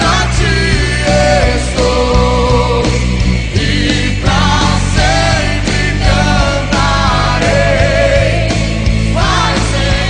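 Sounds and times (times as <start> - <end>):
band with drums playing: 0.0 - 10.0.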